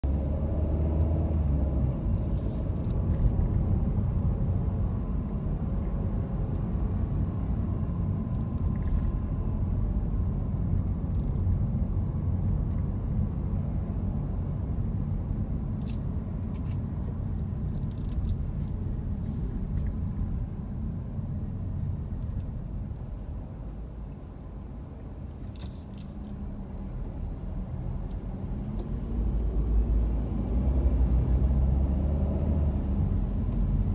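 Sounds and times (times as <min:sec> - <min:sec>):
car road noise drone: 0:00.0 - 0:33.9.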